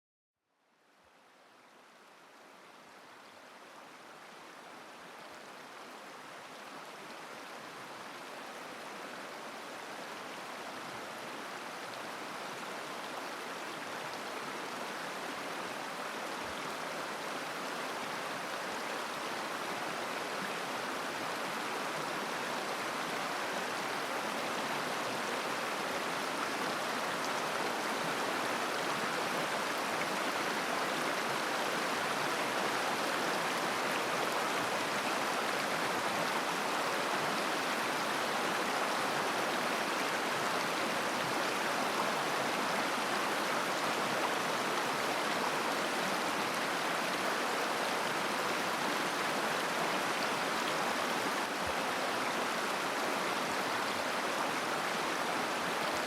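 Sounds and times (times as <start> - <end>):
mountain river flowing over stones: 1.5 - 56.0.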